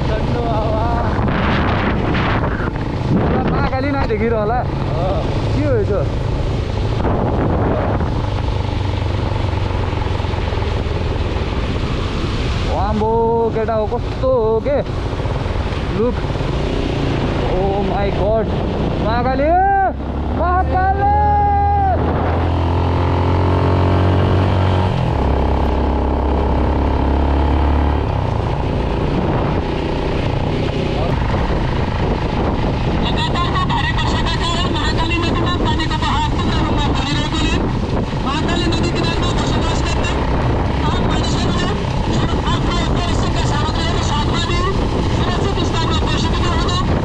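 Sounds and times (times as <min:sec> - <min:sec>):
motorcycle engine running: 0:00.0 - 0:12.6, 0:22.0 - 0:47.0
wind noise on microphone: 0:00.0 - 0:17.8, 0:21.7 - 0:47.0.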